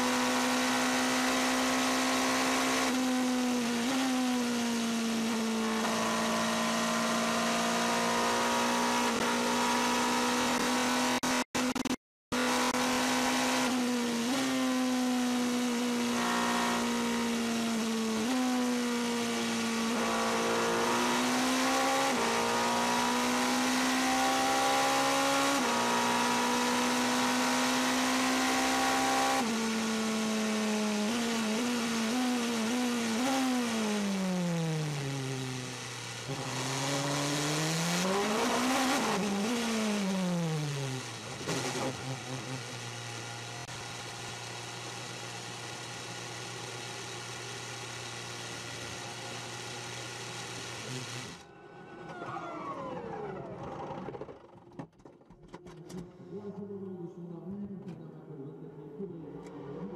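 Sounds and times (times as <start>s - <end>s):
race car engine running: 0.0s - 51.4s, 52.1s - 54.9s.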